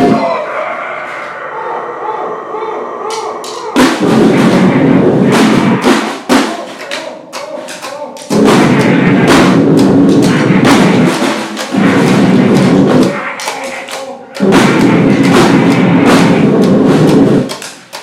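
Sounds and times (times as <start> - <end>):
harsh dense noise: 0.0 - 18.0
drumming in loud blasts: 3.1 - 18.0.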